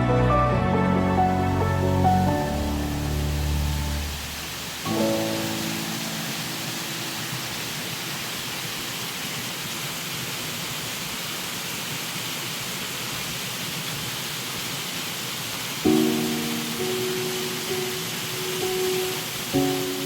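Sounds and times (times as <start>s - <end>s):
flowing water rushing: 0.8s - 20.0s.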